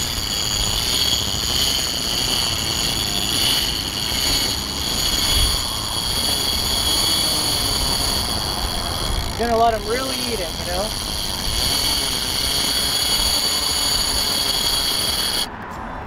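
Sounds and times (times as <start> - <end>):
fishing reel clicker buzzing: 0.0 - 15.5
wind: 0.0 - 16.0.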